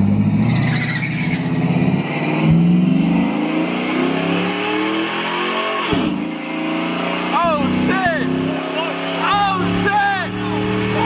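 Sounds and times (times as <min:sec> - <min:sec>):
truck engine at full throttle: 0:00.0 - 0:11.0.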